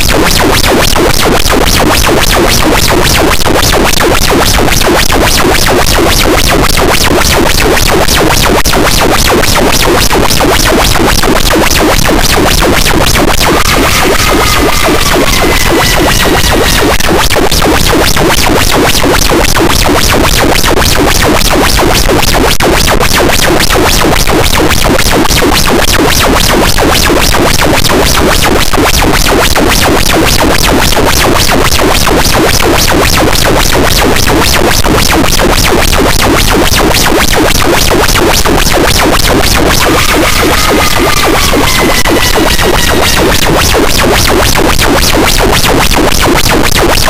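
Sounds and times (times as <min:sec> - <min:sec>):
wall of distorted noise: 0:00.0 - 0:47.0.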